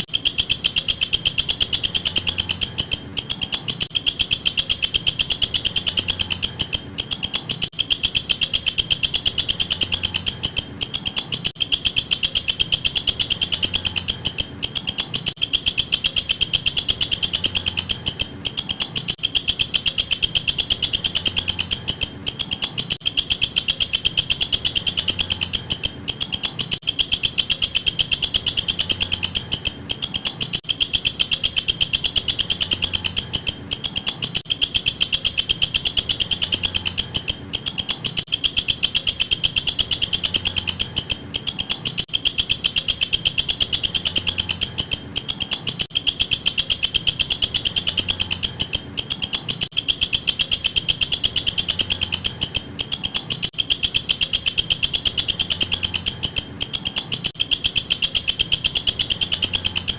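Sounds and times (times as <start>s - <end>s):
katydid trilling: 0.0s - 59.9s.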